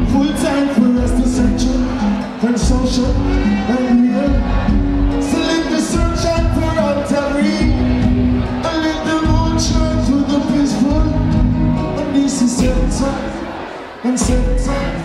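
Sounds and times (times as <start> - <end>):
live reggae band: 0.0 - 15.0
man singing: 0.0 - 15.0.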